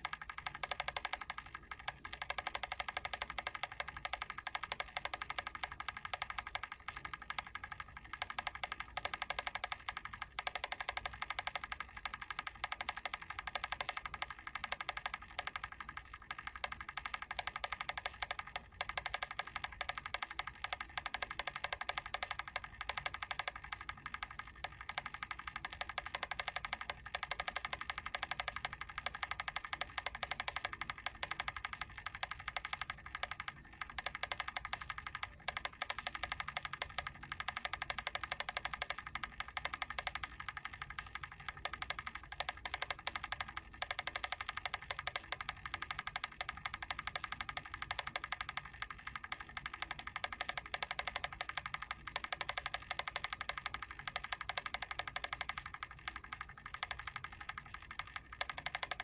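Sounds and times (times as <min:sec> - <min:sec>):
mechanical timer ticking: 0:00.0 - 0:59.0.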